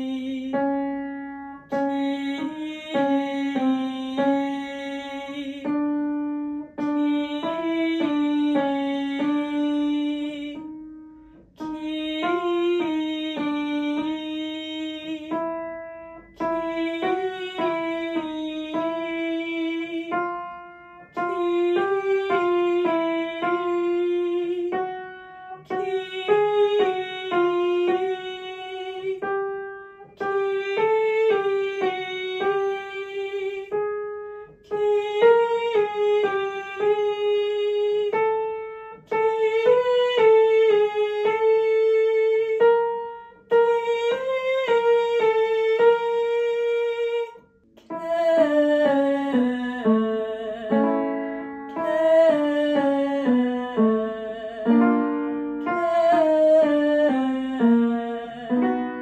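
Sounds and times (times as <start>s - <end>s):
woman singing vocal exercise: 0.0s - 20.4s, 21.0s - 59.0s
upright piano: 0.0s - 59.0s.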